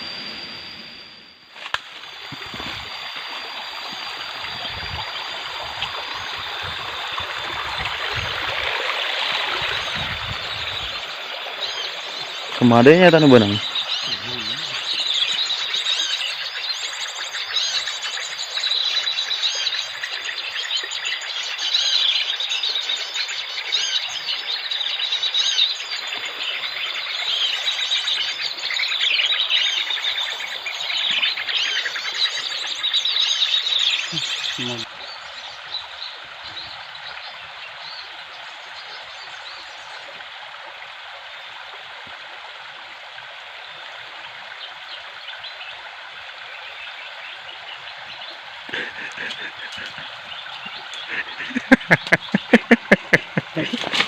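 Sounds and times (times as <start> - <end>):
river water flowing: 1.6 - 54.0
small birds chirping and trilling: 2.4 - 40.1, 46.4 - 54.0.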